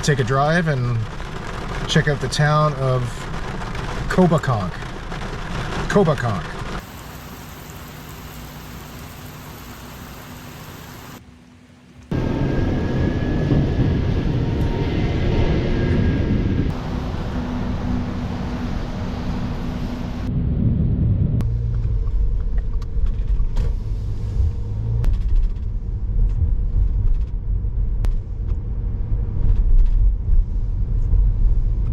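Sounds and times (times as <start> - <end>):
car engine: 0.0 - 11.2, 12.1 - 31.9
road noise: 0.0 - 31.9.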